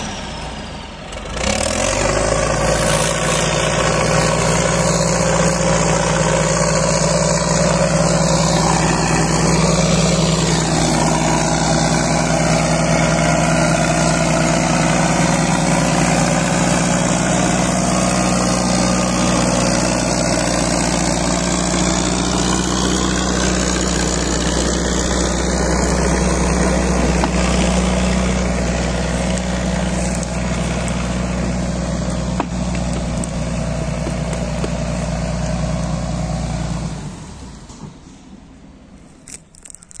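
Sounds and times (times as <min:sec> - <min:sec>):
diesel engine running steadily: 0:00.0 - 0:40.0.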